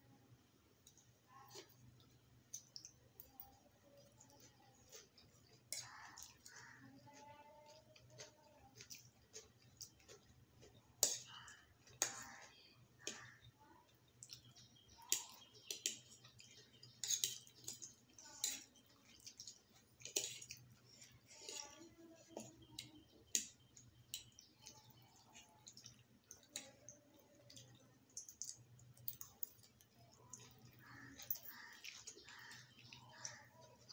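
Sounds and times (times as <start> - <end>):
soft mouth eating sounds: 0.8 - 33.9.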